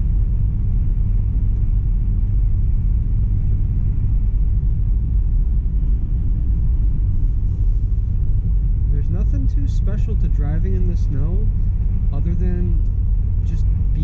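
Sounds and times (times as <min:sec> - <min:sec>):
car engine rumble: 0:00.0 - 0:14.0
road noise: 0:00.0 - 0:14.0.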